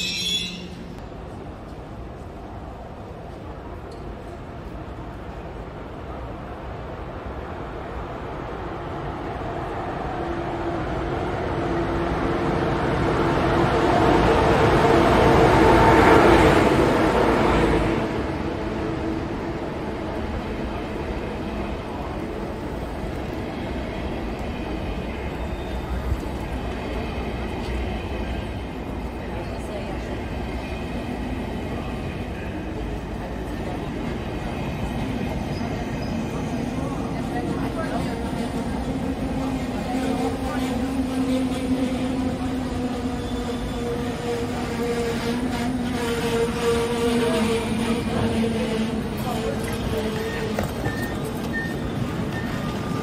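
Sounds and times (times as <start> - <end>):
train rail rumble: 0.0 - 53.0.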